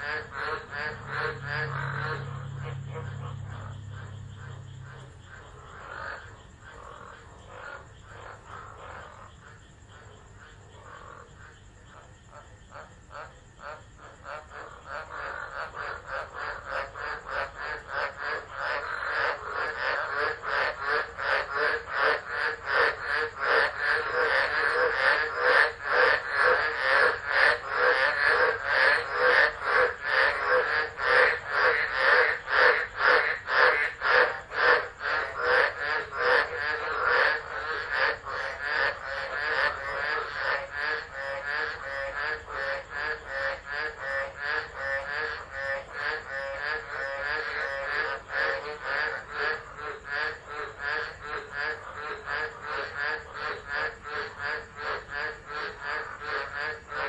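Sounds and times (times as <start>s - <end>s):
frogs calling: 0.0s - 57.0s.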